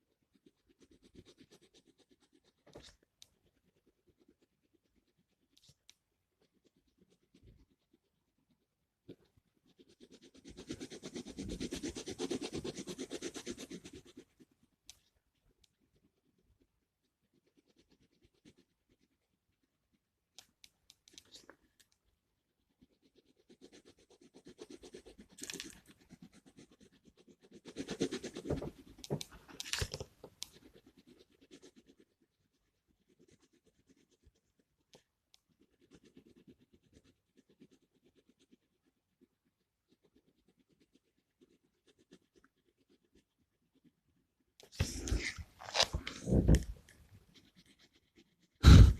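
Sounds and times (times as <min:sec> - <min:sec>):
pen scratching on paper: 0:00.0 - 0:48.9.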